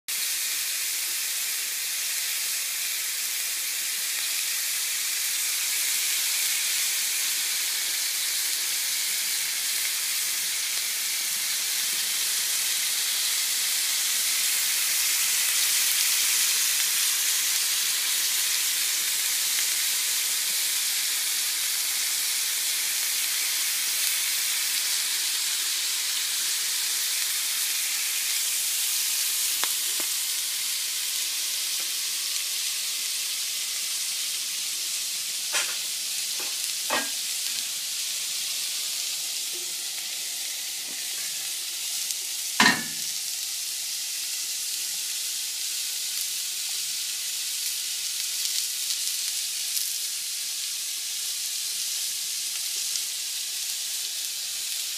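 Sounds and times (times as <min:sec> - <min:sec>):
meat sizzling in a pan: 0:00.1 - 0:54.9.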